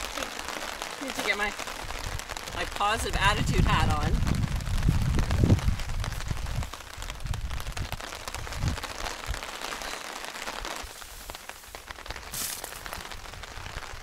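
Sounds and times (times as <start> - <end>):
rain pattering on a tarp: 0.0 - 14.0.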